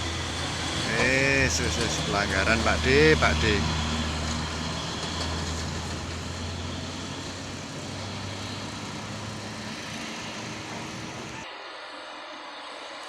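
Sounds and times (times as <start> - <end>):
heavy diesel engine running: 0.0 - 11.4
rolling noise rumble: 0.0 - 11.4.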